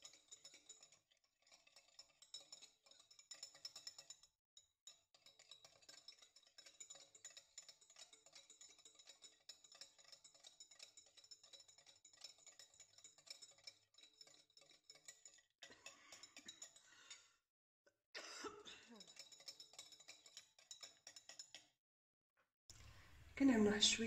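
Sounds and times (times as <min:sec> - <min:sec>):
fork beating eggs in glass bowl: 0:00.0 - 0:17.3, 0:18.9 - 0:21.7.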